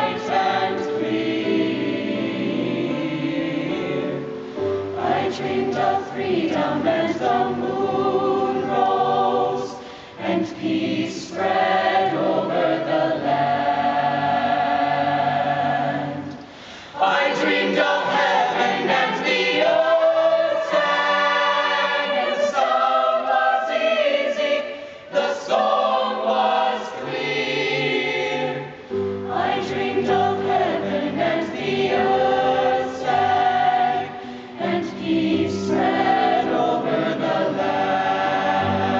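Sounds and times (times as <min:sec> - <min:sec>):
youth choir singing in harmony: 0:00.0 - 0:38.9.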